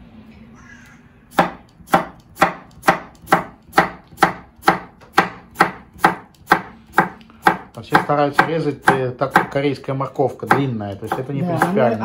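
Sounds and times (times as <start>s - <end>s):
knife chopping on cutting board: 1.3s - 9.6s, 10.4s - 12.0s.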